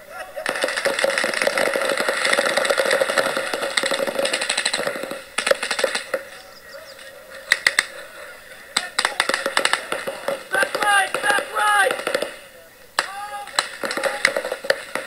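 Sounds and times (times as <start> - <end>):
paintball markers firing: 0.4 - 8.0, 8.7 - 15.0.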